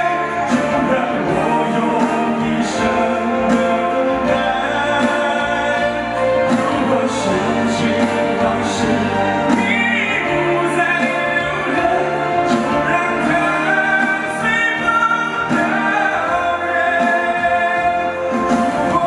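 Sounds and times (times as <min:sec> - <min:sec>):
instrumental accompaniment: 0:00.0 - 0:19.0
man singing into a microphone: 0:00.0 - 0:19.0.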